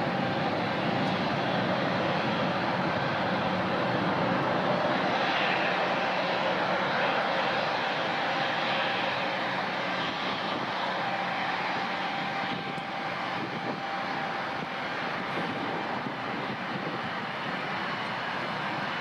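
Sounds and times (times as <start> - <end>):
airliner engines running: 0.0 - 19.0.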